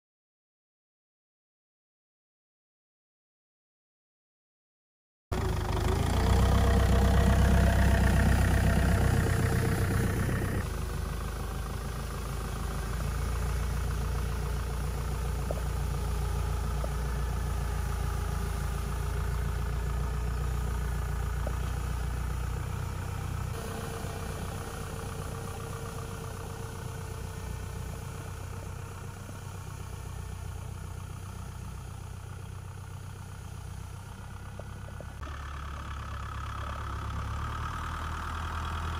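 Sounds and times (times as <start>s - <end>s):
tractor engine running: 5.3s - 38.9s.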